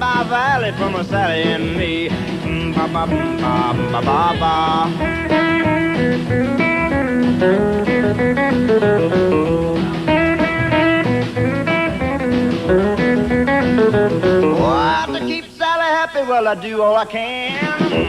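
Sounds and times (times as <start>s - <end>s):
guitar picking lead line: 0.0s - 15.6s
country band playing: 0.0s - 18.0s.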